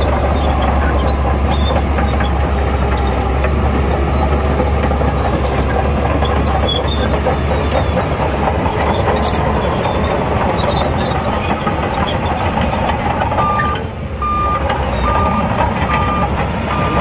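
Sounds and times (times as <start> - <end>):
bulldozer engine droning: 0.0 - 17.0
crawler tracks clattering: 0.0 - 17.0
track links squeaking: 0.0 - 17.0.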